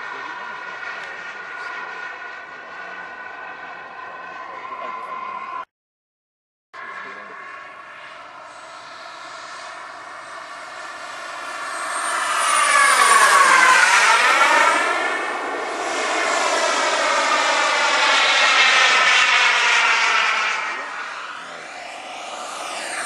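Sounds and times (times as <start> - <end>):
model jet turbine whine: 0.0 - 5.7, 6.8 - 23.0.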